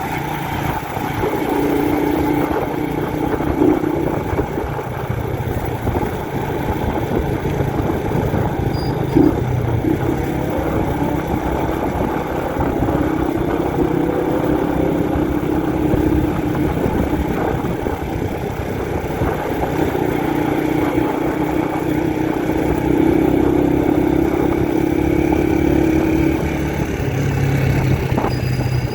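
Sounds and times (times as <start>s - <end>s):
motorcycle engine running: 0.0s - 28.9s
wind and road noise: 0.0s - 28.9s.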